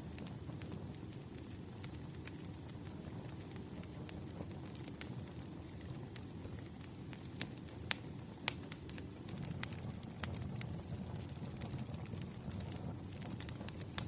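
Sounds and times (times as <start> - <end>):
fire crackling pops: 0.0 - 14.0
low rush of flames: 0.0 - 14.0.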